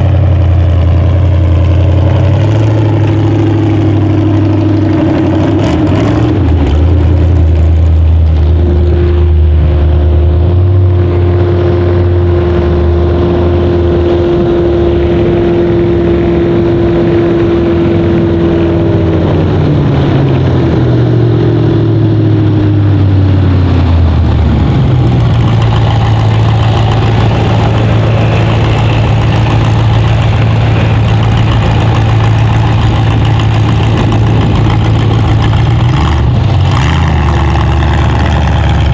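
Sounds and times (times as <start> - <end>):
loud engine running: 0.0 - 38.9.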